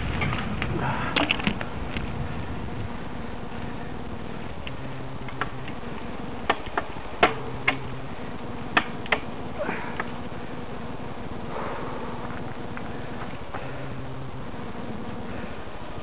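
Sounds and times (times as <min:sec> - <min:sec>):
bike knocking and rattling: 0:00.0 - 0:16.0
tyre and wind noise: 0:00.0 - 0:16.0.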